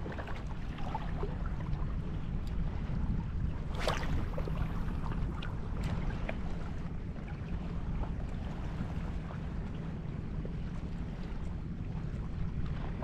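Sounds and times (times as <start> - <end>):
small waves lapping: 0.0 - 13.0
wind buffeting microphone: 0.0 - 13.0.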